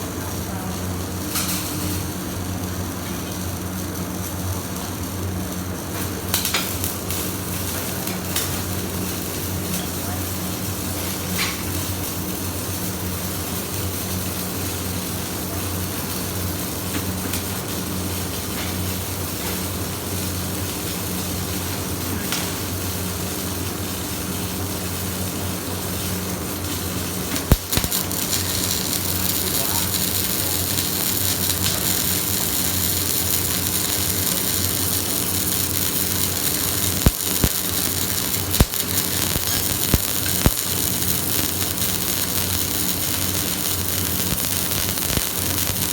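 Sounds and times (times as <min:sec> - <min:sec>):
arc welding crackling hiss: 0:00.0 - 0:45.9
welding machine hum: 0:00.0 - 0:45.9.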